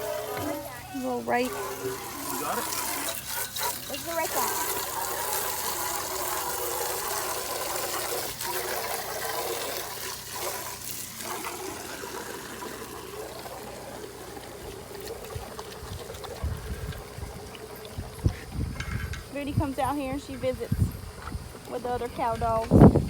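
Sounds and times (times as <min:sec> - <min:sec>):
water running and trickling: 0:00.0 - 0:23.0.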